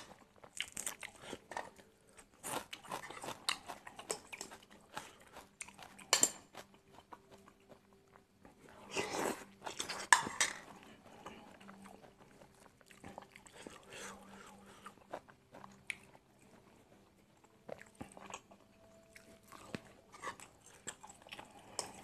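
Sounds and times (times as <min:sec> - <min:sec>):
chewing and mouth noises: 0:00.0 - 0:22.0.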